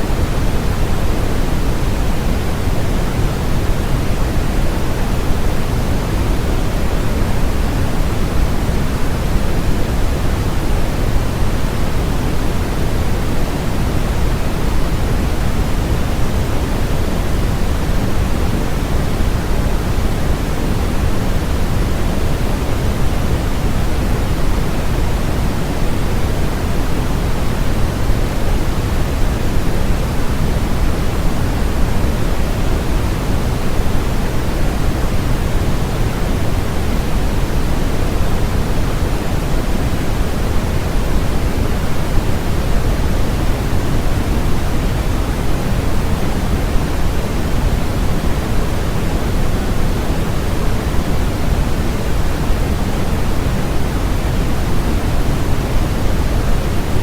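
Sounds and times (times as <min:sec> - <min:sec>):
low-heavy white noise: 0:00.0 - 0:57.0.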